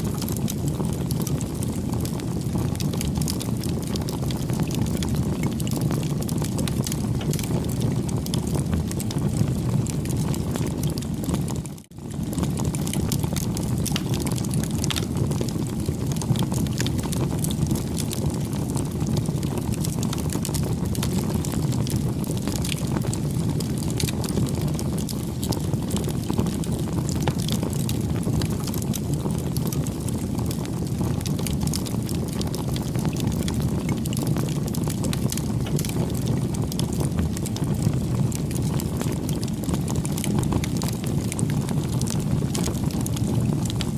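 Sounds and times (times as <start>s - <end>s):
burning wood crackling: 0.0s - 43.9s
low rumble of flames: 0.0s - 43.9s.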